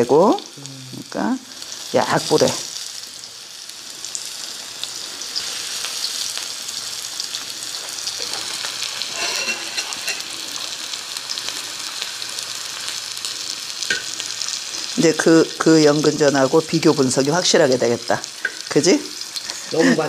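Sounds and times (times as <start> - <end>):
patties sizzling in oil: 0.0 - 20.0.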